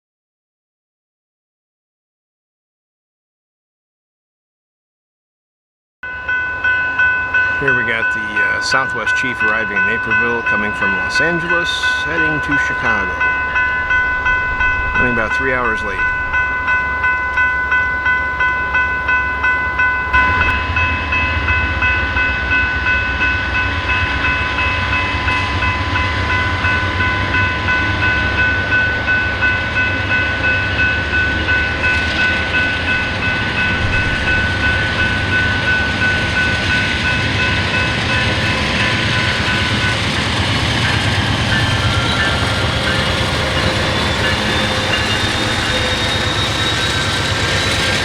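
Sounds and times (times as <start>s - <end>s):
bell ringing: 6.0s - 48.0s
train rumbling into station: 6.0s - 48.0s.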